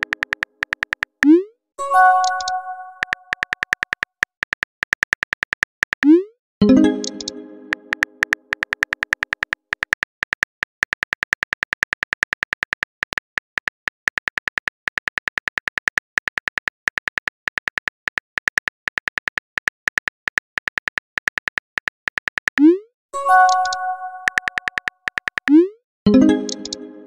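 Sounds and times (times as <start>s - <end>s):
phone keyboard clicks: 0.0s - 1.4s, 2.2s - 6.2s, 7.0s - 22.6s, 23.5s - 25.6s.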